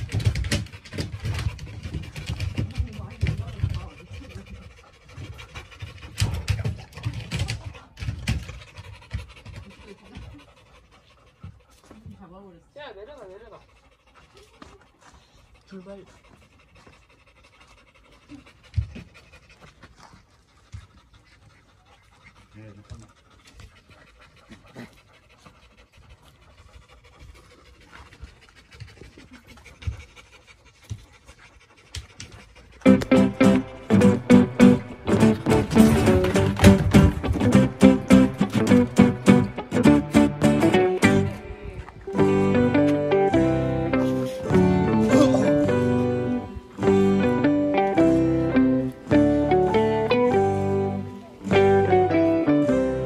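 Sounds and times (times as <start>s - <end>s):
dog panting: 0.0s - 52.8s.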